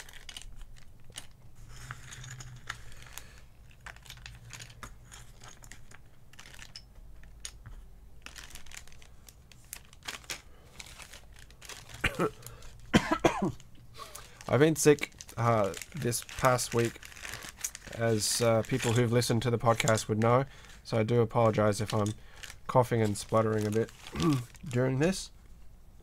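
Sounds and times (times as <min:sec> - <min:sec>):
plastic bags crinkling: 0:00.0 - 0:07.6, 0:08.2 - 0:25.3.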